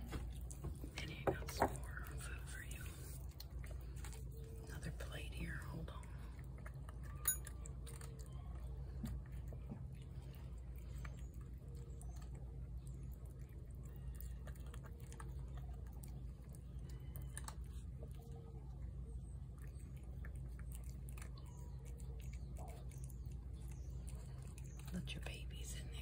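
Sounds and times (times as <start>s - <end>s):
cat chewing and lapping: 0.0s - 26.0s.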